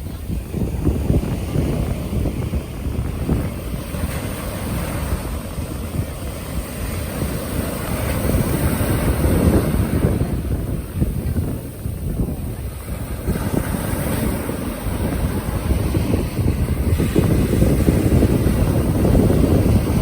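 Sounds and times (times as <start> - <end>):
sea waves on shore: 0.0 - 20.0
wind buffeting microphone: 0.0 - 20.0.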